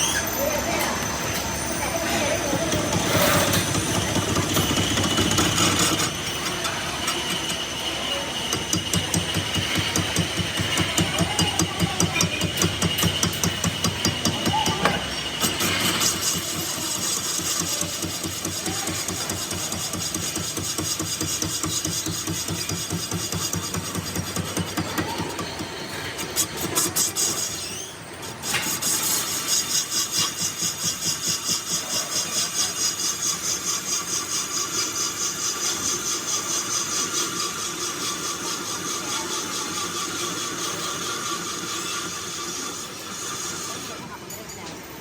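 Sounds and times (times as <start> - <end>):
machinery rhythmic pulse: 0.0 - 44.4.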